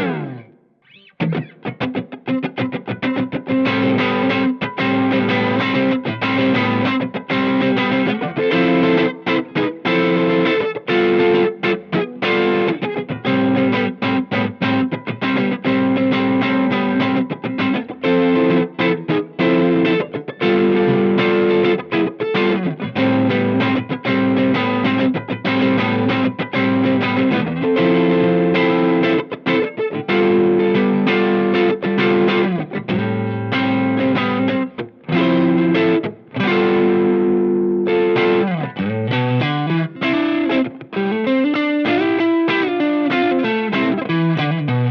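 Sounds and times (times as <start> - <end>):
overdriven electric guitar: 0.0 - 44.9.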